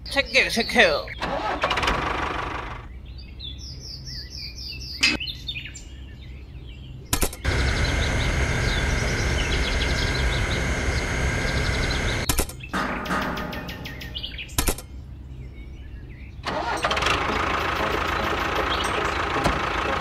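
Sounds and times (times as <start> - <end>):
birds chirping: 0.0 - 20.0
mechanical hum with low rumble: 0.0 - 20.0.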